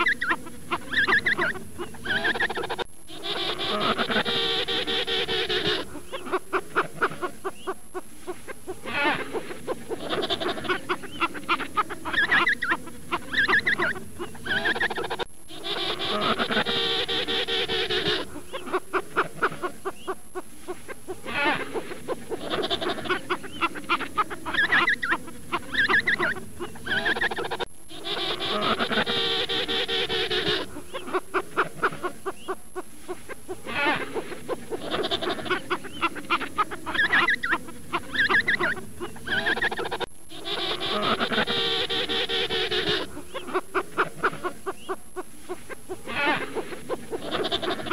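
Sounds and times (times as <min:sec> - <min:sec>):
penguins calling: 0:00.0 - 0:47.9.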